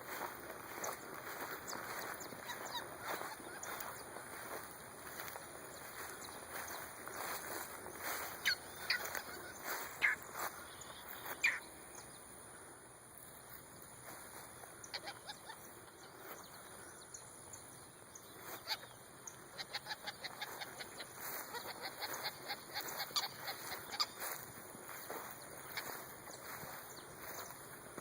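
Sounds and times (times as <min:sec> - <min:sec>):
birds calling: 0:00.0 - 0:12.4, 0:14.1 - 0:28.0.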